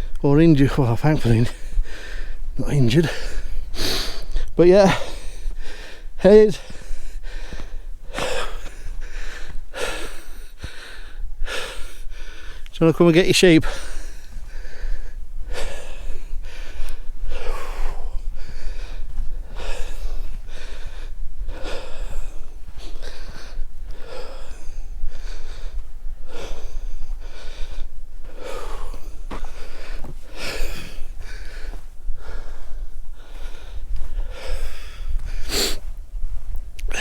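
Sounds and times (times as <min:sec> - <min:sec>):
man breathing heavily: 0:00.0 - 0:37.0.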